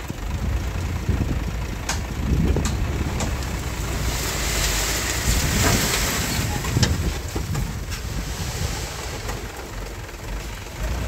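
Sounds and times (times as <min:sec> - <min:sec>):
bulldozer diesel engine rumbling: 0:00.0 - 0:11.0.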